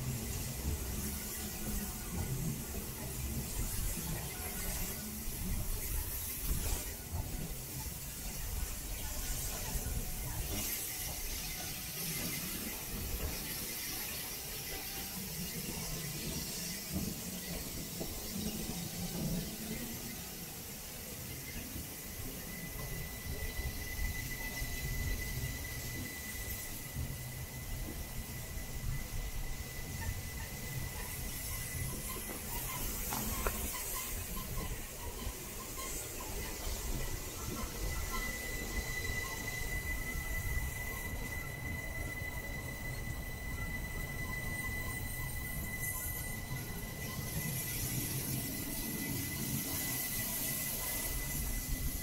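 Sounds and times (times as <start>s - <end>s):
high hiss: 0.0s - 52.0s
train wheels rumbling on rail: 0.0s - 52.0s
wheel squeal: 0.2s - 52.0s.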